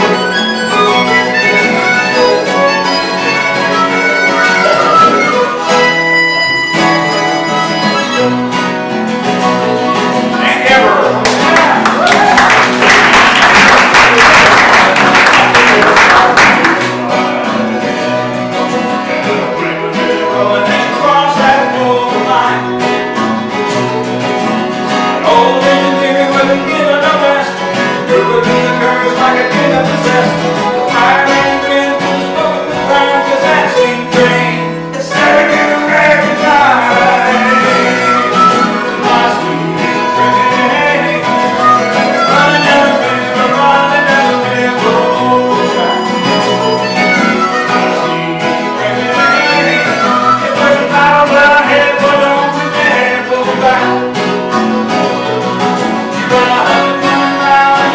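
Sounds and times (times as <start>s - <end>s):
harmonica: 0.0s - 12.1s, 12.8s - 57.9s
acoustic guitar: 0.0s - 57.9s
mandolin: 0.0s - 57.9s.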